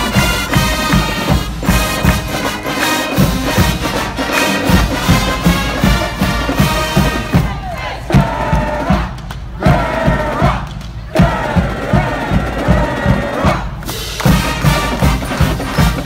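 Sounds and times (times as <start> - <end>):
brass band playing: 0.0 - 10.6, 11.2 - 16.0
steady drum beat: 0.0 - 16.0.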